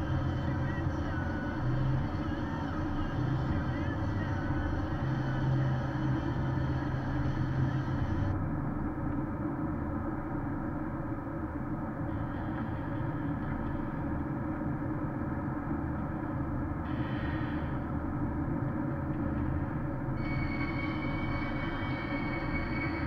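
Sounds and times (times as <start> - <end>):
low drone: 0.0 - 23.0
road and engine noise inside car: 0.0 - 23.0.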